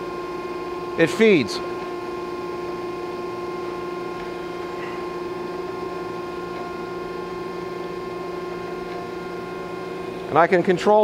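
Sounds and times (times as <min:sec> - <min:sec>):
constant machine tones: 0:00.0 - 0:11.0
grinder hydraulic hum: 0:00.0 - 0:11.0.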